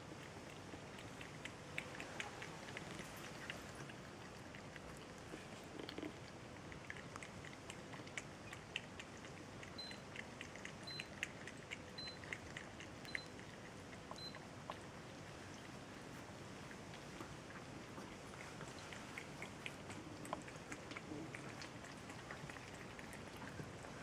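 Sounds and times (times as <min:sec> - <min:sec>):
cats lapping milk: 0:00.0 - 0:24.0.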